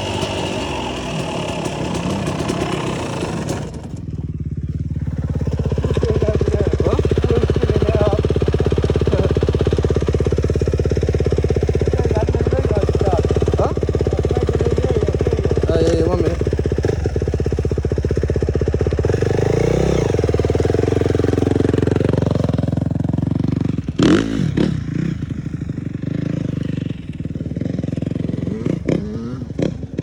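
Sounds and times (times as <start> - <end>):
motorbike engine revving and idling: 0.0 - 30.0.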